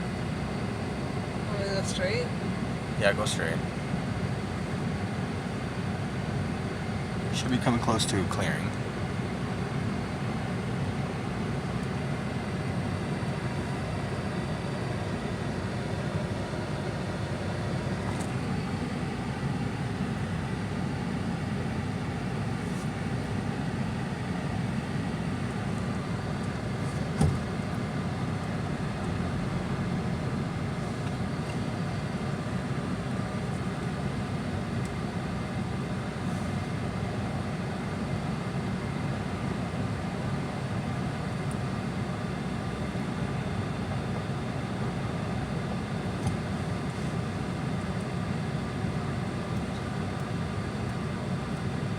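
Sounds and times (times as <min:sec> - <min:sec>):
car road and engine noise: 0:00.0 - 0:51.9.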